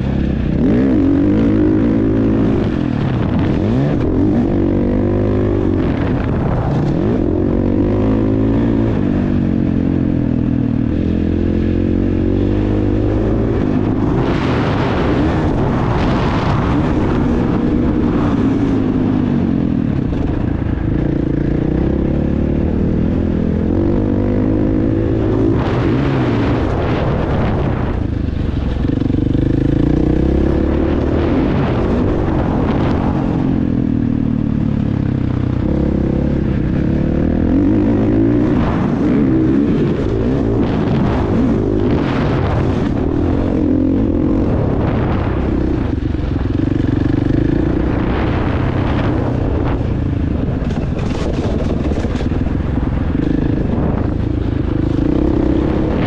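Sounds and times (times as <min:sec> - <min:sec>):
motocross bike engine revving: 0:00.0 - 0:33.6, 0:35.3 - 0:56.0.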